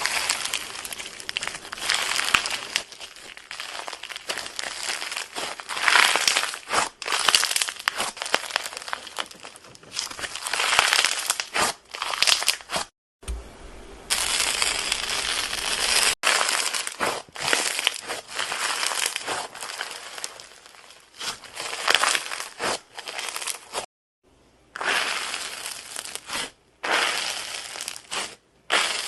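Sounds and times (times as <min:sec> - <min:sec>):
crunchy material crackling: 0:00.0 - 0:12.9, 0:14.1 - 0:23.9, 0:24.8 - 0:29.0.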